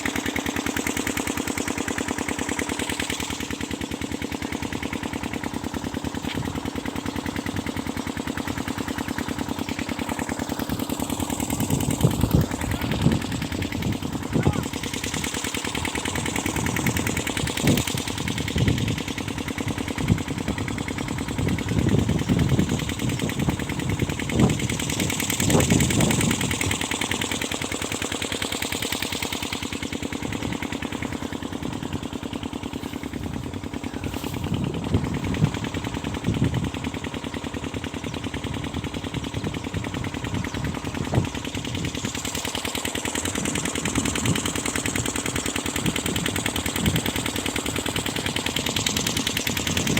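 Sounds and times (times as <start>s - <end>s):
pump engine chugging: 0.0s - 49.9s.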